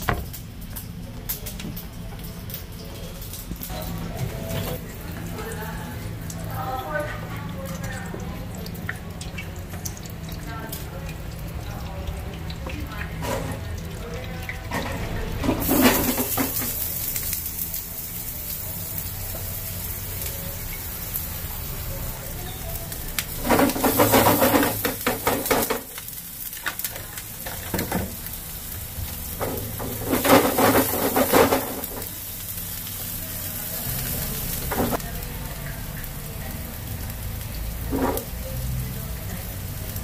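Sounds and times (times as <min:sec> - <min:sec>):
food sizzling in oil: 0:00.0 - 0:40.0.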